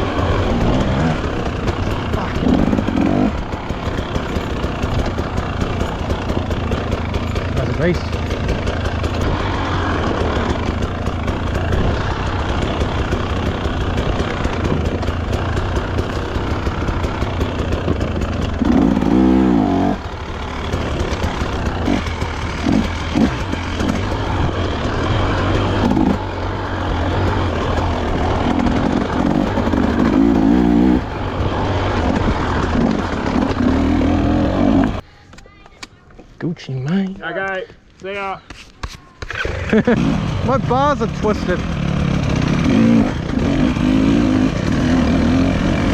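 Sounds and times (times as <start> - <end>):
dirt bike engine revving: 0.0 - 35.0, 39.3 - 45.9.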